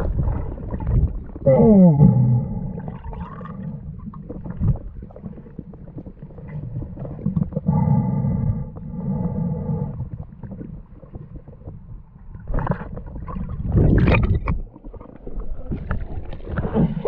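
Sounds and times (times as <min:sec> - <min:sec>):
bubbly rushes of water: 0:00.0 - 0:17.0
underwater rumble and bubbling: 0:00.0 - 0:17.0.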